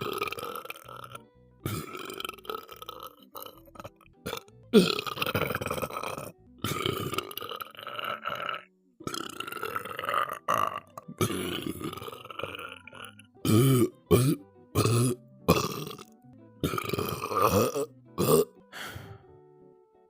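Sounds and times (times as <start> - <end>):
person burping: 0.0 - 19.1.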